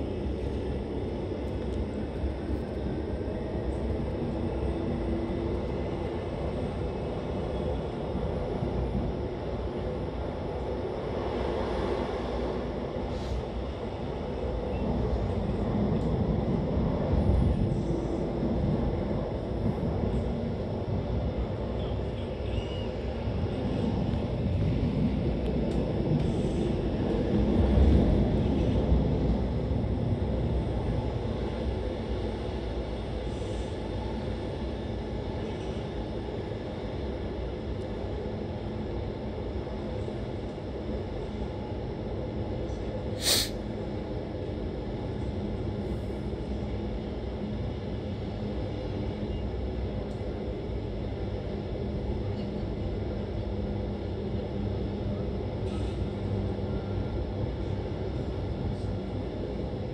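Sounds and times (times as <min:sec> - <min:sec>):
electric train rumbling on rails: 0:00.0 - 0:59.9.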